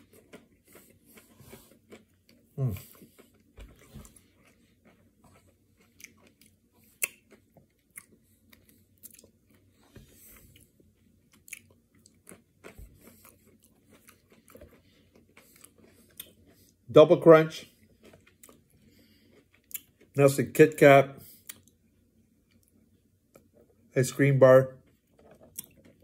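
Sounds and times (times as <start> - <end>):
chewing and crunching: 0.0 - 23.9, 24.8 - 26.0.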